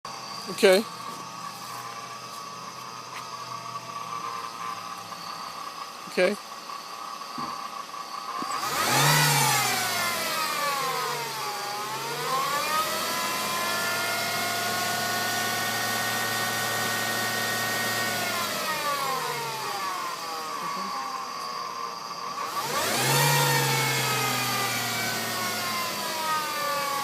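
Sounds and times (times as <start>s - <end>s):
car engine running: 0.0s - 27.0s
car transmission whining: 0.0s - 27.0s.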